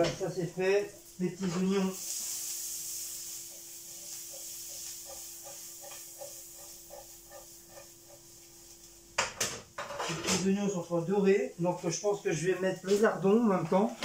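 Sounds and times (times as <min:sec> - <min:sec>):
onions sizzling in frying pan: 0:00.0 - 0:13.6.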